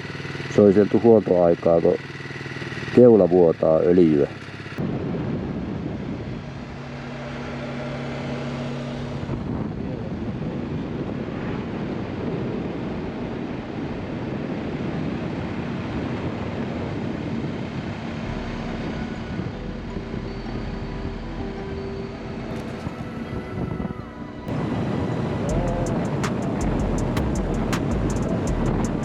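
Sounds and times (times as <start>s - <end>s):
motorcycle engine hum: 0.0s - 29.0s
wind and road noise: 0.0s - 29.0s.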